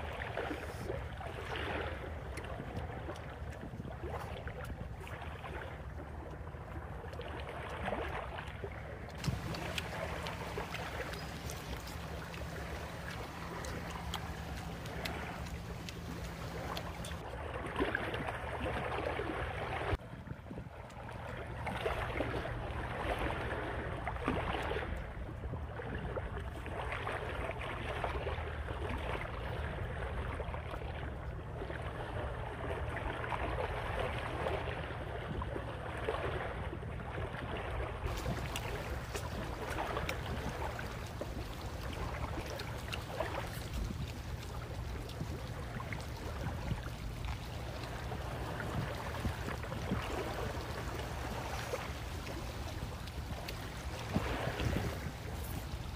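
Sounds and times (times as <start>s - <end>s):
water: 0.0s - 55.9s
wind: 0.0s - 55.9s.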